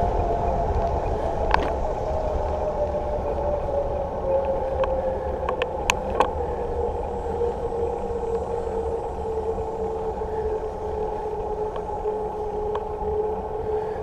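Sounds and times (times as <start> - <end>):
low hum: 0.0 - 14.0
wind noise: 0.0 - 14.0.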